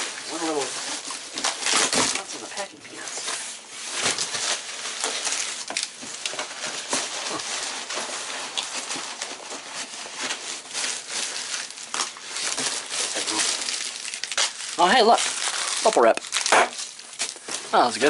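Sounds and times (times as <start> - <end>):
hands rustling packing peanuts: 0.0 - 18.0.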